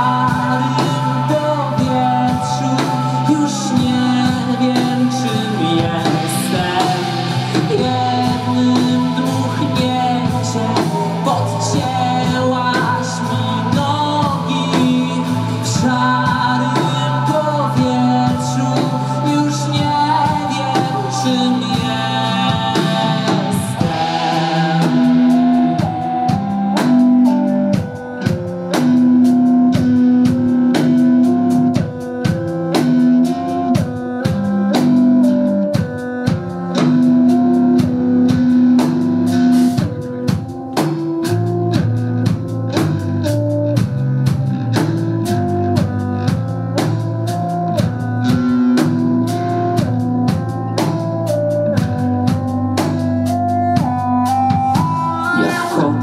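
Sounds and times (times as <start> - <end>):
bass guitar: 0.0 - 56.0
drum kit steady beat: 0.0 - 56.0
keyboards: 0.0 - 56.0.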